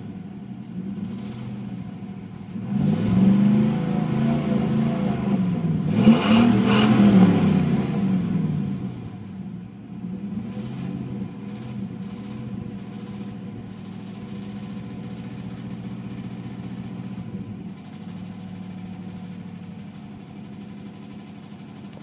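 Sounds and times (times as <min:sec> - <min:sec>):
engine running with knock: 0:00.0 - 0:22.0.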